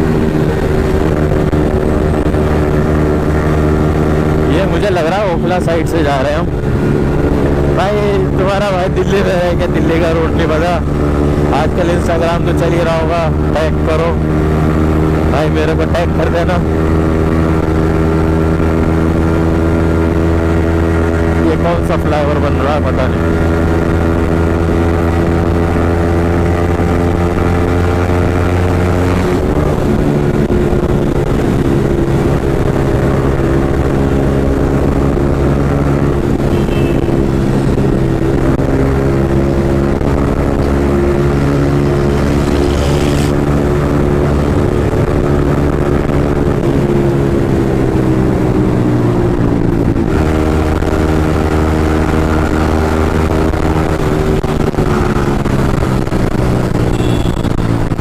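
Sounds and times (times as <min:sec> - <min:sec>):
loud motorcycle engine running: 0:00.0 - 0:58.0.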